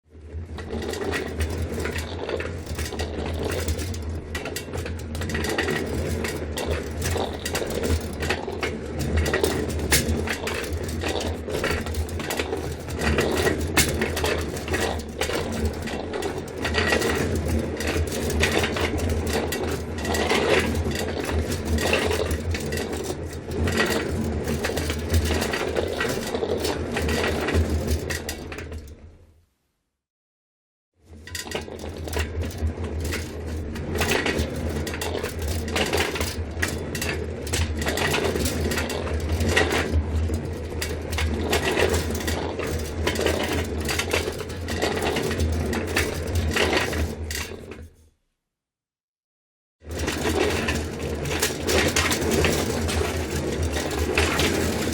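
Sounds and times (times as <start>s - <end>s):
trolley wheels rumbling and rattling: 0.2s - 29.2s, 31.1s - 47.9s, 49.8s - 54.9s.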